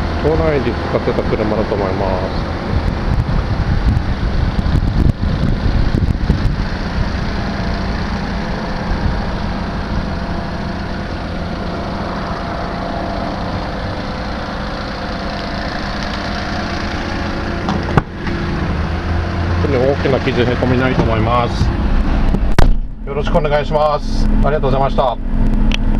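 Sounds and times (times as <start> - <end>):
truck engine idling: 0.0 - 25.9.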